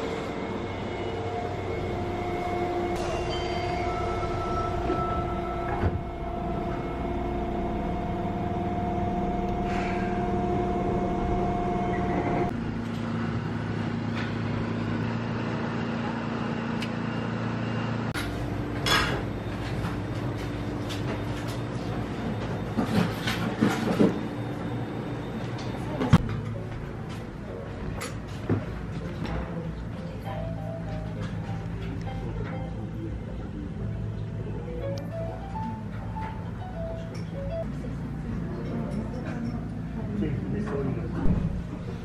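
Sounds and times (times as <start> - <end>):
train equipment humming: 0.0 - 42.0.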